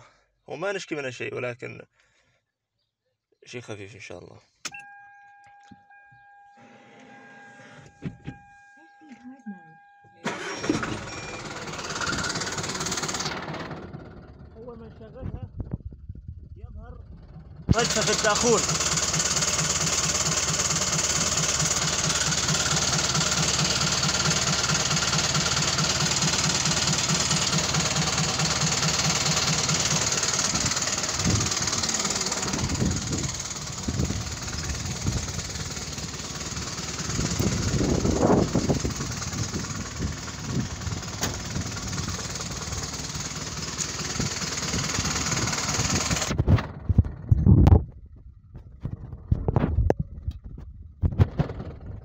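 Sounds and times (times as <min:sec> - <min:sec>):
diesel engine idling: 0:05.9 - 0:15.5, 0:16.2 - 0:48.5.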